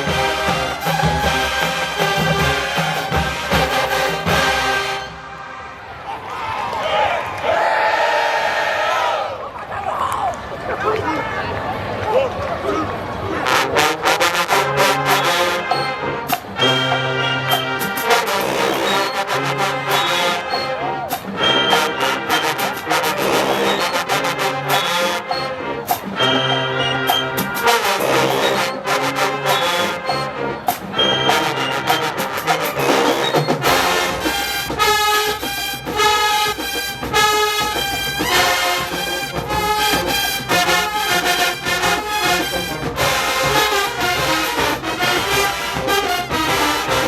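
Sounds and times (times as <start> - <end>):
marching band drums: 0.0 - 5.2, 13.4 - 47.0
marching band brass: 0.0 - 9.4, 12.7 - 47.0.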